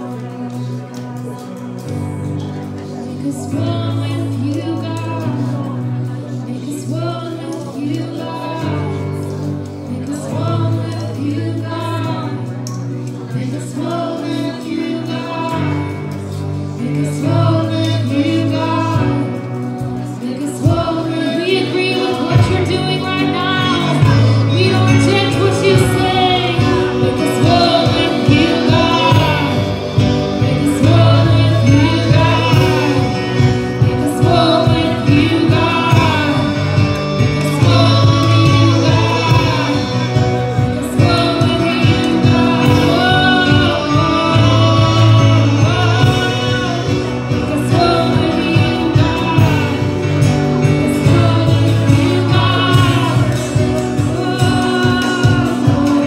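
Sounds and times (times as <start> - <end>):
drums: 0.0 - 56.0
electric guitar: 0.0 - 56.0
keyboard: 0.0 - 56.0
woman singing lead: 0.0 - 56.0.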